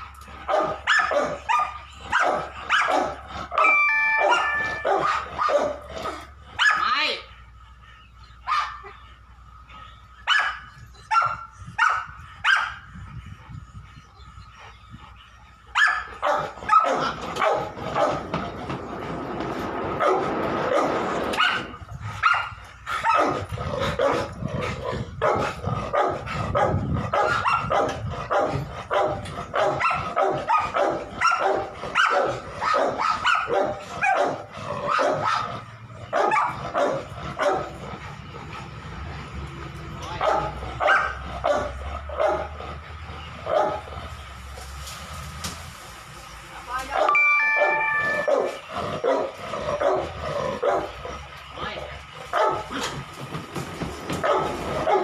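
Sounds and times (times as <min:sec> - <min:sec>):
dogs barking: 0:00.0 - 0:44.3, 0:46.9 - 0:55.0.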